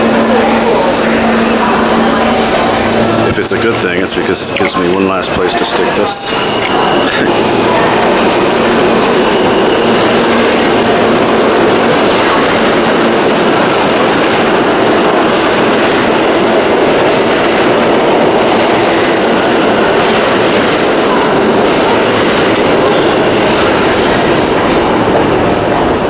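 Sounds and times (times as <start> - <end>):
train wheel clatter: 0.0 - 3.8, 6.3 - 26.0
subway train rumbling: 0.0 - 26.0.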